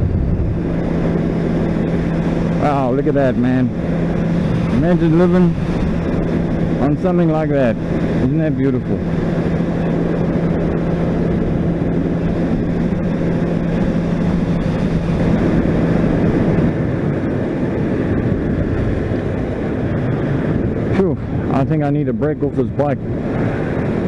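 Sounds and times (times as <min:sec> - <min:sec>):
motorcycle engine cruising: 0:00.0 - 0:24.0
road noise: 0:00.0 - 0:24.0
wind rush: 0:00.0 - 0:24.0.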